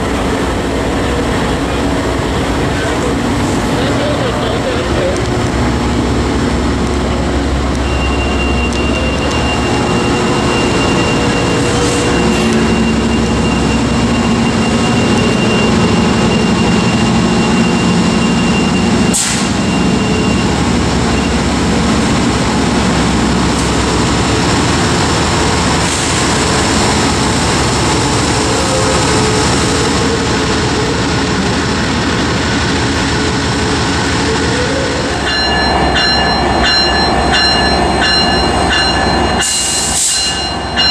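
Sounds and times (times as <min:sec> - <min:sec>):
diesel locomotive idling: 0:00.0 - 0:40.9.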